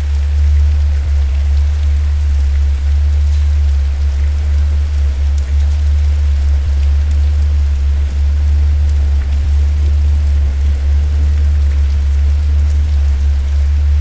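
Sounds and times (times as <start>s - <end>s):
deep rumble: 0.0s - 14.0s
rain falling: 0.0s - 14.0s.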